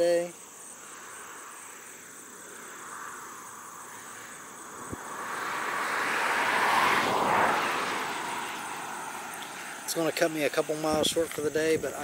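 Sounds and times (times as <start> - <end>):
insects chirping: 0.0 - 12.0
vehicle passing: 0.8 - 11.0.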